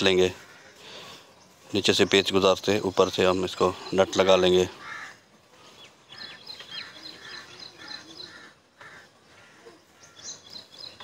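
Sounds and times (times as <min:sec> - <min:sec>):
birds calling and chirping: 0:00.0 - 0:11.0.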